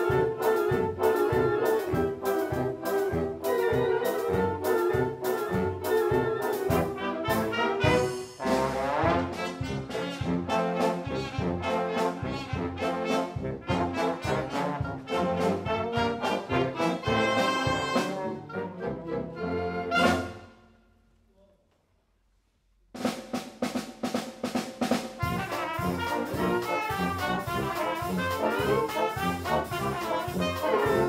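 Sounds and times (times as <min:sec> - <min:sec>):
drum beats: 0:00.0 - 0:18.3, 0:22.8 - 0:31.0
wind band playing: 0:00.0 - 0:20.6, 0:24.5 - 0:31.0
rising brass slide: 0:00.0 - 0:20.7, 0:25.2 - 0:31.0.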